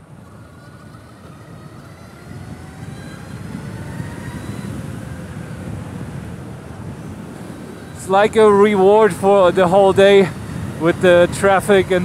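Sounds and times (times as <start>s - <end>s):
wind and tyre noise: 0.0s - 12.0s
electric motor whine rising: 0.2s - 12.0s.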